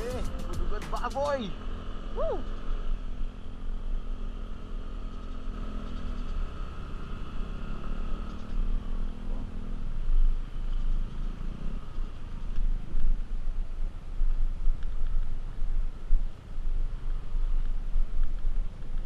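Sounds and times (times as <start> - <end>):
wind rumble on microphone: 2.2 - 19.0.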